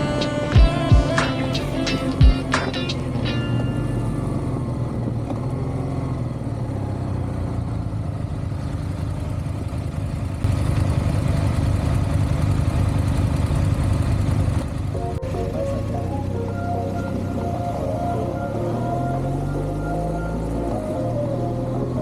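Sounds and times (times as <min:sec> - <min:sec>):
motorcycle engine running: 0:00.0 - 0:22.0
road and wind noise: 0:01.6 - 0:22.0.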